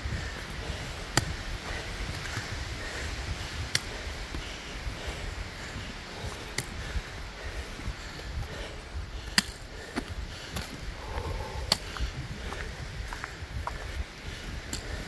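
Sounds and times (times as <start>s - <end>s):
footsteps on rocky dirt trail: 0.0s - 15.0s
low microphone rumble: 0.0s - 15.0s.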